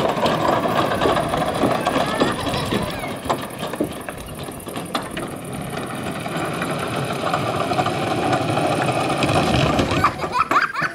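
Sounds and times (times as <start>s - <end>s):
small motor rattling: 0.0s - 10.9s.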